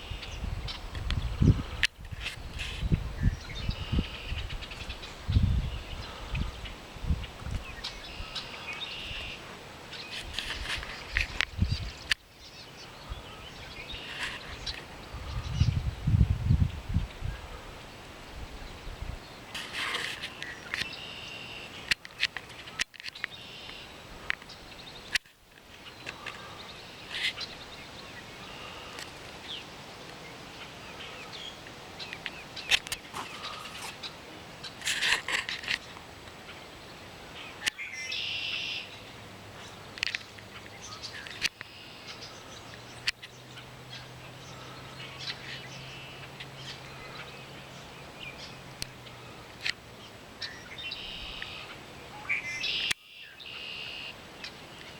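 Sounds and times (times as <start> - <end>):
wild birds chirping: 0.0 - 54.9.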